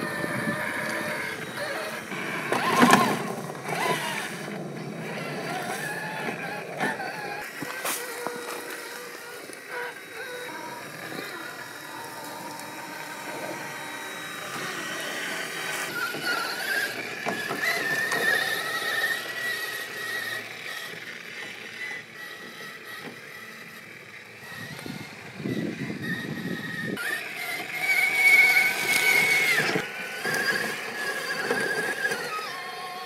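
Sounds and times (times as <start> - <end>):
toy car motor whining: 0.0 - 33.0.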